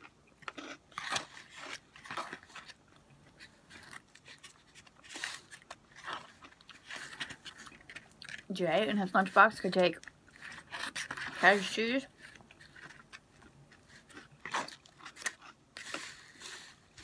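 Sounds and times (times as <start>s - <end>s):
crunchy food chewing: 0.0s - 17.0s.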